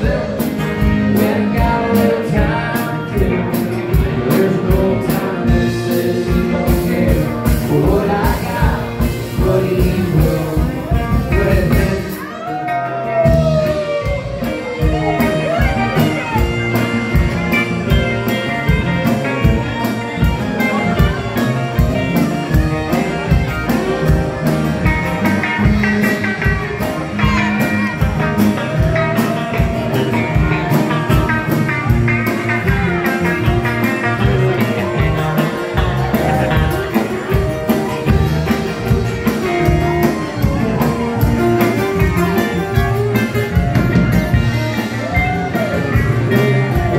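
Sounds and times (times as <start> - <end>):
drum kit steady beat: 0.0 - 46.9.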